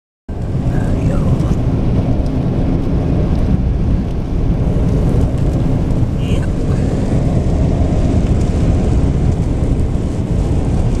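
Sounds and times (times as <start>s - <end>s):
loud low rumble: 0.3s - 11.0s.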